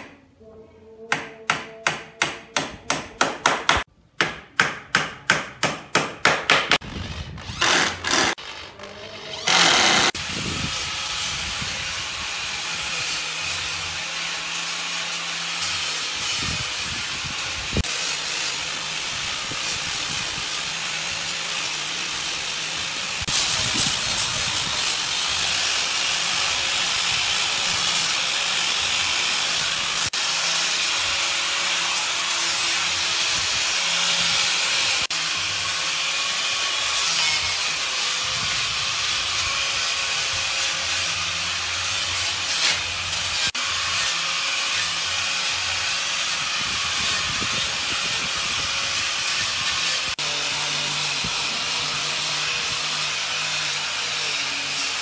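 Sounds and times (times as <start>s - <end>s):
angle grinder sanding wood: 6.8s - 55.0s.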